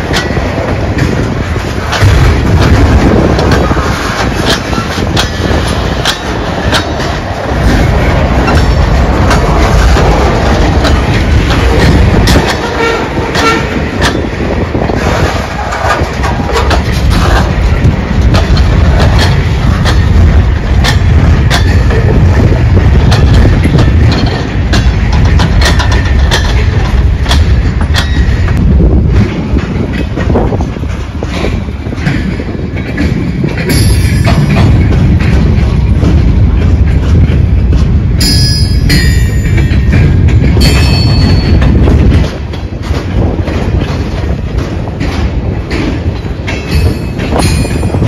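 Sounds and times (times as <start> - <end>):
sharp clicks and clanks: 0.0 - 48.0
train wheels rumbling on rail: 0.0 - 48.0.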